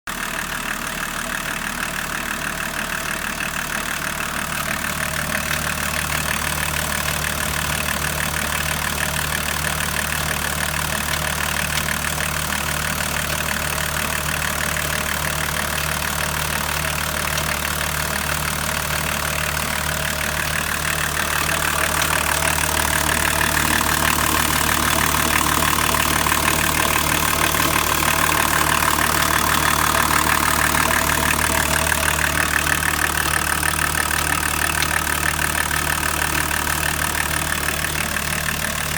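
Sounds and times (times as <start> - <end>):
diesel engine idling: 0.1 - 38.9.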